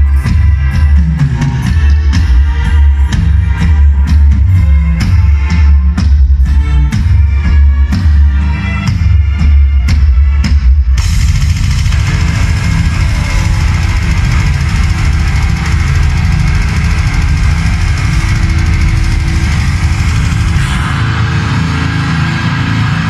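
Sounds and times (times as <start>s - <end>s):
metal band playing live: 0.0s - 23.0s.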